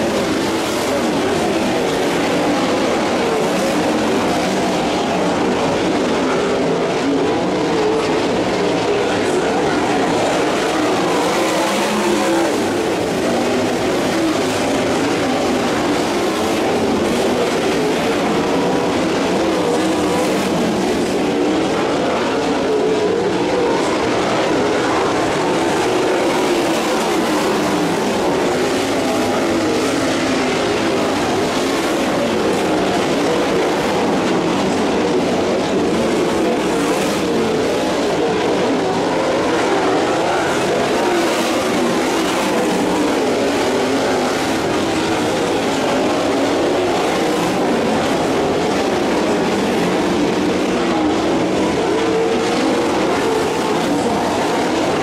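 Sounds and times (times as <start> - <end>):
racing car engines: 0.0 - 55.0.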